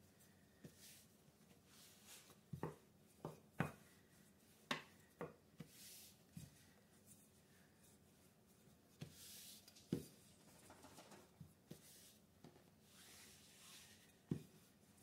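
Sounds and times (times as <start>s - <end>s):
rolling pin rubbing dough: 0.6s - 10.2s, 11.3s - 15.0s.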